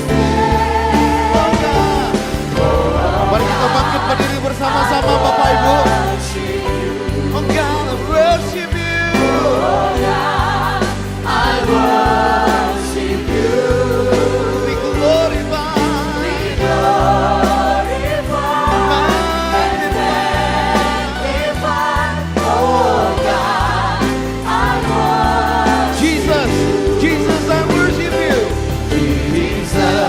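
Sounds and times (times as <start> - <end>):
worship song with band: 0.0 - 30.0.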